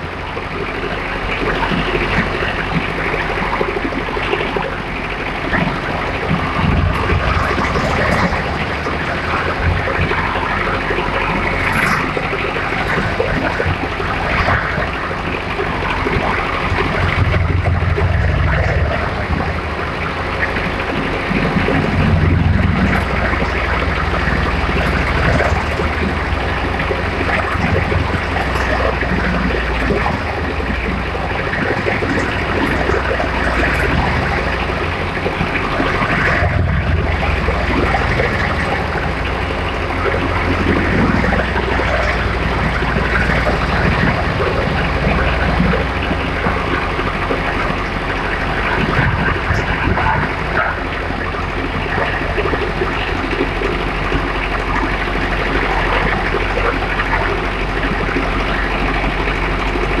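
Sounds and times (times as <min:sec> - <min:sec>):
wood chipper engine running: 0:00.0 - 1:00.0.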